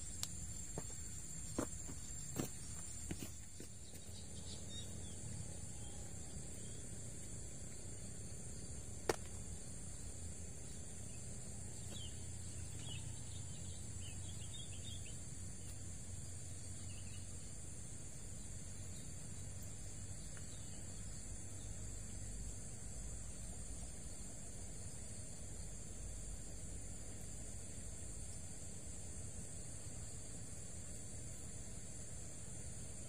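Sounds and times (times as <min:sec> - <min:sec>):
insects chorus: 0:00.0 - 0:33.0.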